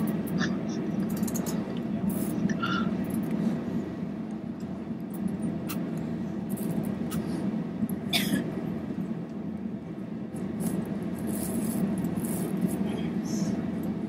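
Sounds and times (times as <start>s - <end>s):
engine and air conditioning hum: 0.0s - 14.0s.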